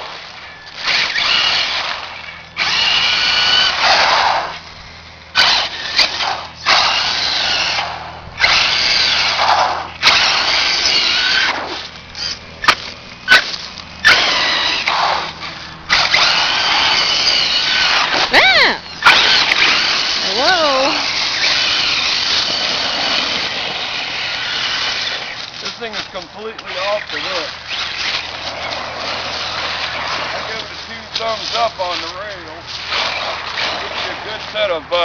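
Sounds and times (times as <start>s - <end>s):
electric motor whining: 0.0s - 35.0s.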